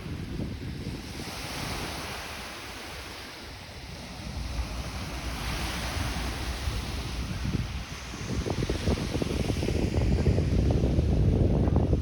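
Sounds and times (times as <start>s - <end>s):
waves washing onto shore: 0.0s - 12.0s
wind buffeting microphone: 0.0s - 12.0s.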